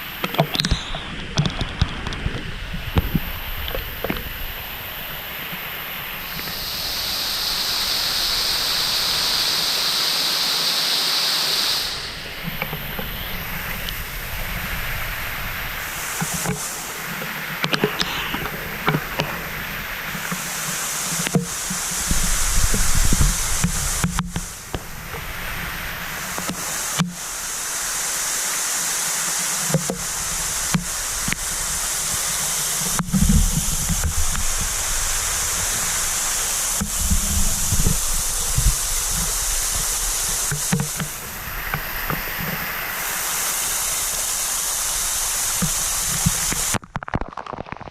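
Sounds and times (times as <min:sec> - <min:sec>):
waterfall rushing water: 0:00.0 - 0:46.8
loud even hiss: 0:00.0 - 0:47.1.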